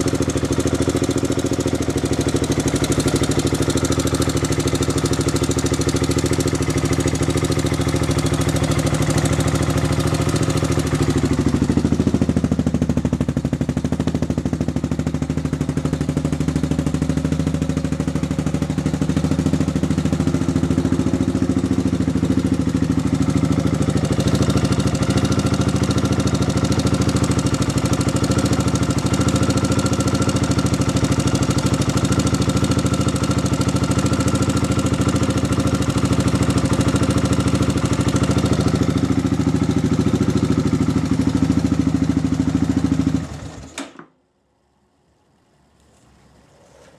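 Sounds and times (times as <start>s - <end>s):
atv engine idling: 0.0s - 43.7s.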